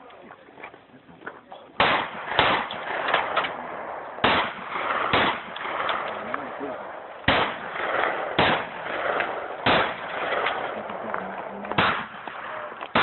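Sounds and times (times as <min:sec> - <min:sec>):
handgun shots echoing: 0:01.8 - 0:13.0.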